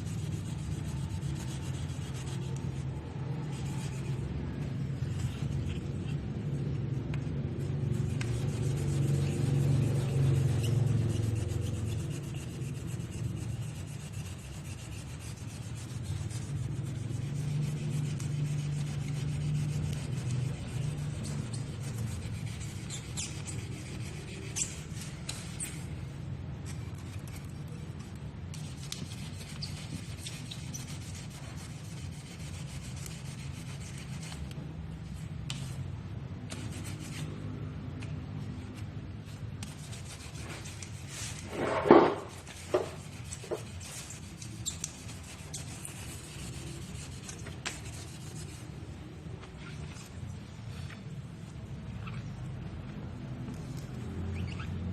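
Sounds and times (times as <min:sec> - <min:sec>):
sanding rubbing on a surface: 0:00.0 - 0:50.6, 0:53.6 - 0:54.9.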